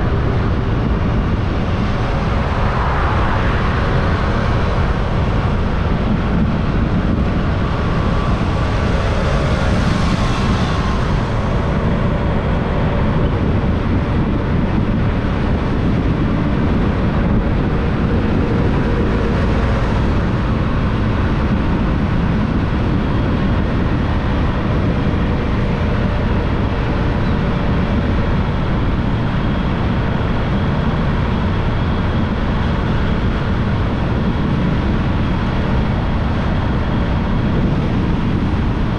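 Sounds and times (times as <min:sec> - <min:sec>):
road noise: 0:00.0 - 0:38.9
wind rushing on microphone: 0:00.0 - 0:38.9.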